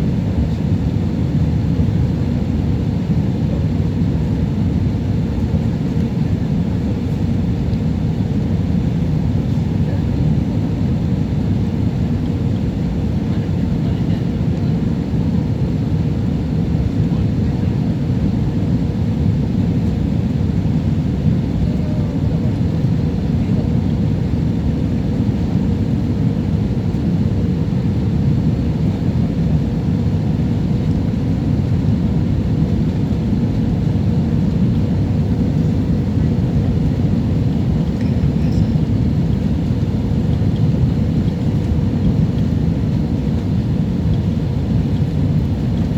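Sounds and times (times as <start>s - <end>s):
jet engine rumble: 0.0s - 45.9s.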